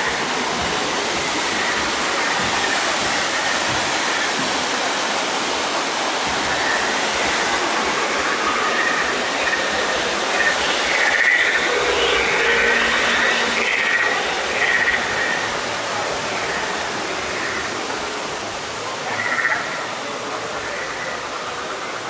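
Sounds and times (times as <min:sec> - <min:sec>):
waterfalls rushing: 0:00.0 - 0:22.0.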